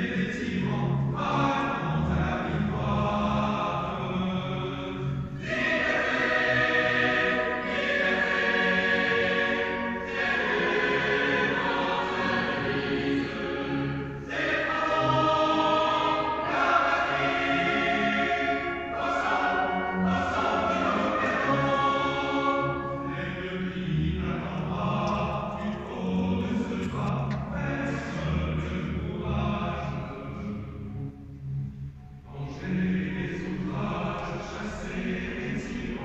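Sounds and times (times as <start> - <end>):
choir singing operatic passage: 0.0 - 31.1, 32.2 - 36.0.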